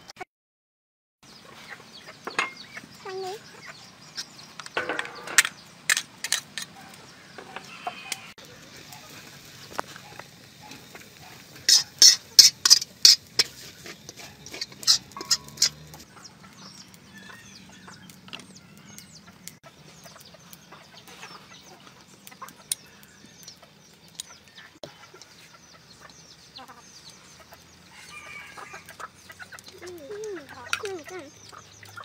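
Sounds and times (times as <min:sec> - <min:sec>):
chickens clucking: 0:01.3 - 0:32.0.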